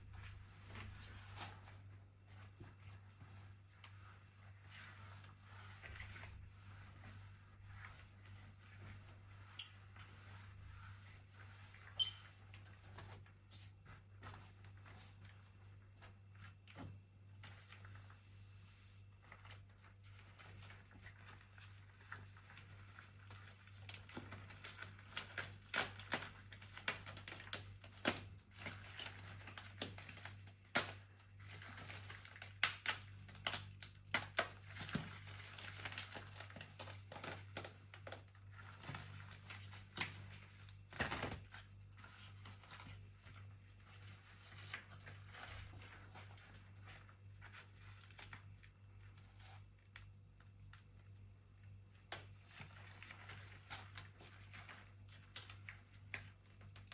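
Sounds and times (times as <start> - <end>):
rustling and crinkling: 0.0 - 56.9.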